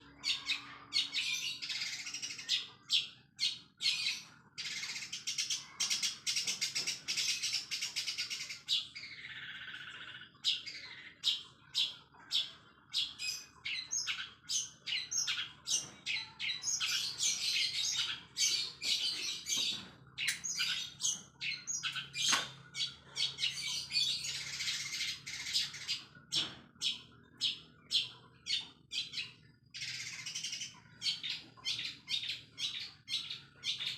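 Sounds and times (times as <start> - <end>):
mimicked sparrow chirps: 0.2 - 33.9.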